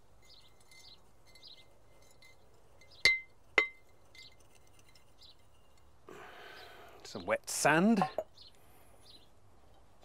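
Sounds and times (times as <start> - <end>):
faint birdsong chirps: 0.0 - 10.0.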